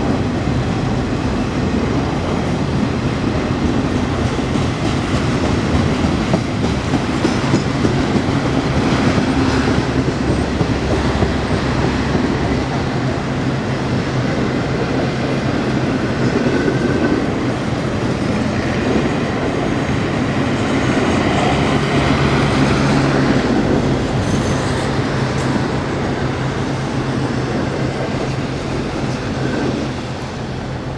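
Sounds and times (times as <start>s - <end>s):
train wheels clickety-clack: 0.0s - 30.9s.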